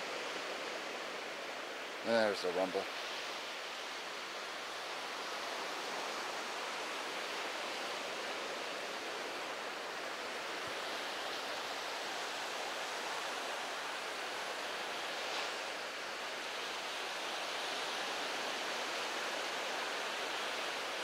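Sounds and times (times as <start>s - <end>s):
ocean surf breaking on sand: 0.0s - 21.0s.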